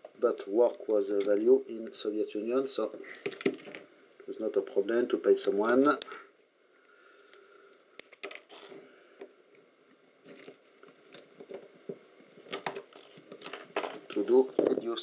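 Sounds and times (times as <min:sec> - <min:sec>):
potting compound crackling: 0:00.0 - 0:15.0.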